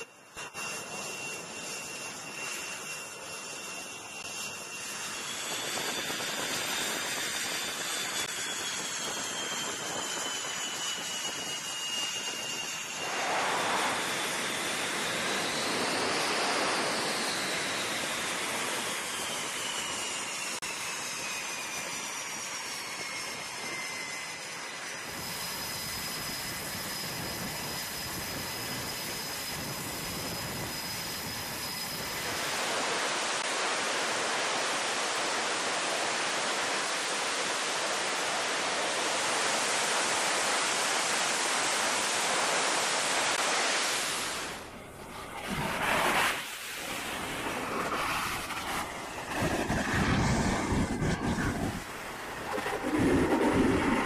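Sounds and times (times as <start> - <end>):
jet engines rushing and whining: 0.0 - 54.0.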